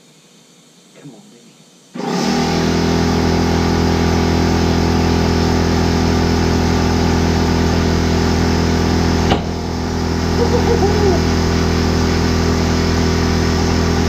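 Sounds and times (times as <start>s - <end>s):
air compressor motor hum: 1.9s - 14.0s.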